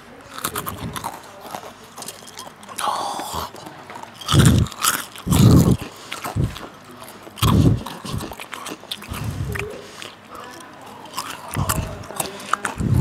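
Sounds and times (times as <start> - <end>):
crunchy crackling: 0.0 - 13.0
snack being bitten and chewed: 0.2 - 13.0.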